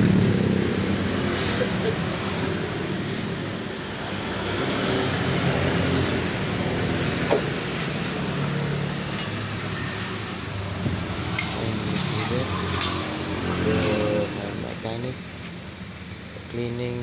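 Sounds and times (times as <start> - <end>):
motor vehicle engine running: 0.0 - 16.5.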